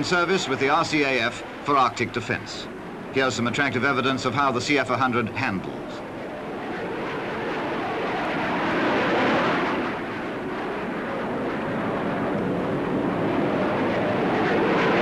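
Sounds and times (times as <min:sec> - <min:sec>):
jet fighter flying past: 0:00.0 - 0:15.0.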